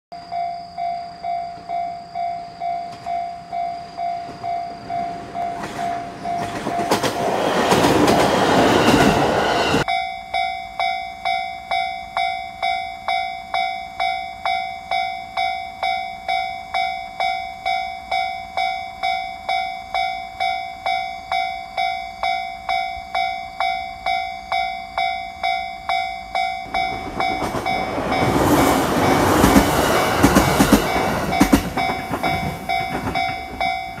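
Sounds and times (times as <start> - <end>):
level-crossing warning bell ringing: 0.1 - 34.0
electric train passing: 0.3 - 9.9, 10.8 - 34.0.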